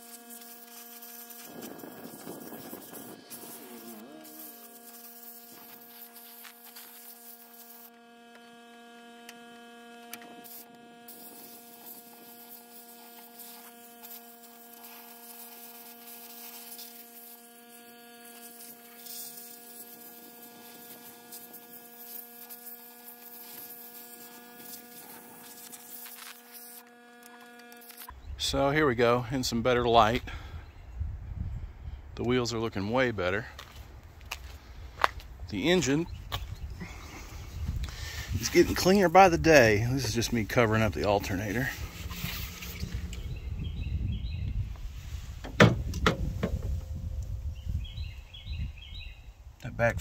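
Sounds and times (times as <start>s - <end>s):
steady hum of held tones: 0.0s - 50.0s.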